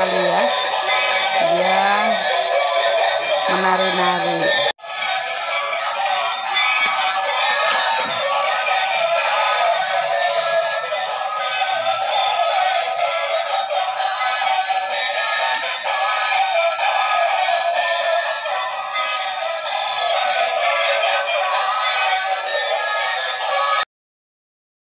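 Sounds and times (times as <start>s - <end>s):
tinny electronic song from toy speakers: 0.0s - 23.8s.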